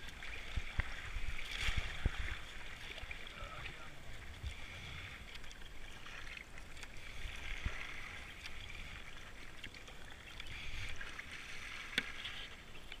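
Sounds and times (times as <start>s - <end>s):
kayak paddle strokes: 0.0s - 13.0s
water hissing along a hull: 0.0s - 13.0s.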